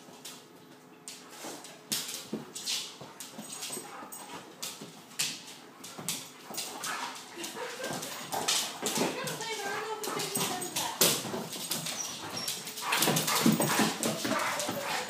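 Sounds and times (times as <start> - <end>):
paws scuffling on wooden floor: 0.1 - 15.0.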